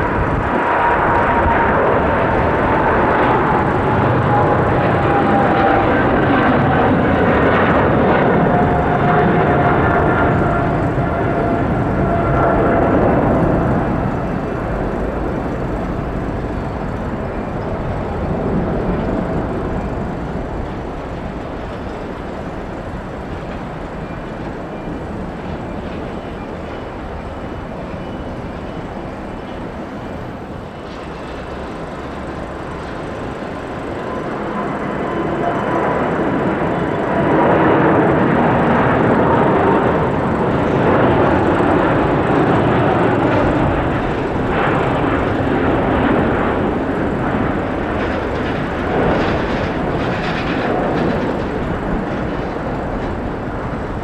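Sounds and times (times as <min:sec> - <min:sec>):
another jet passing: 0:00.0 - 0:54.0
jet engines rumbling with whine: 0:00.0 - 0:54.0.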